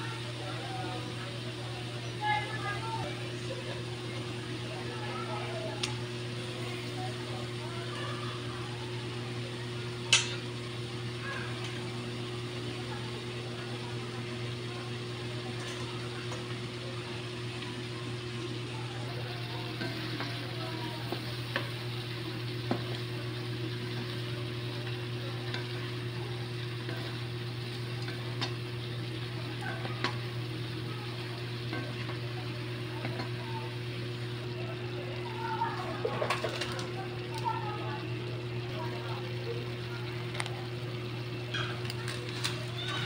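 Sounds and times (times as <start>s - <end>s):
meat sizzling in a wok: 0.0s - 43.0s
steady low hum: 0.0s - 43.0s.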